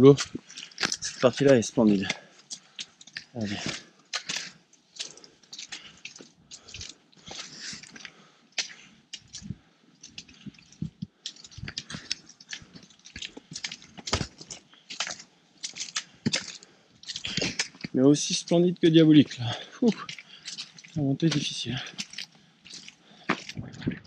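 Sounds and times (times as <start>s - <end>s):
footsteps crunching on gravel: 0.0s - 24.0s.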